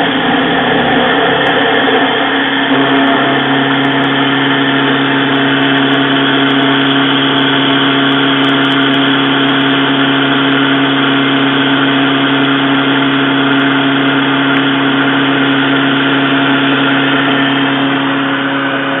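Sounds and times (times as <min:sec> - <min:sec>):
machine tool motor hum: 0:00.0 - 0:19.0
metal grinding cutting noise: 0:00.0 - 0:19.0.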